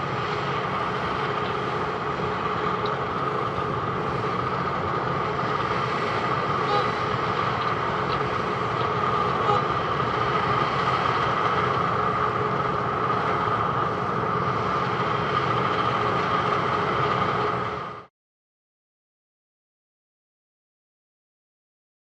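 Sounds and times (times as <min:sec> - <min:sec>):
heavy machinery rumbling: 0:00.0 - 0:18.1
machine whine: 0:00.0 - 0:18.1.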